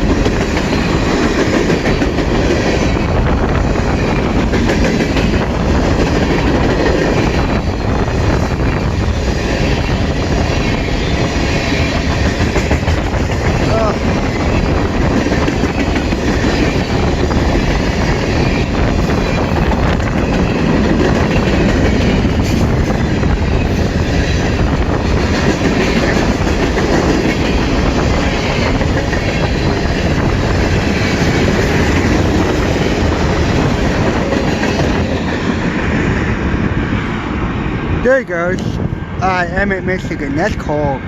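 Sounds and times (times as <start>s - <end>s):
freight train wheels on rails: 0.0s - 41.0s.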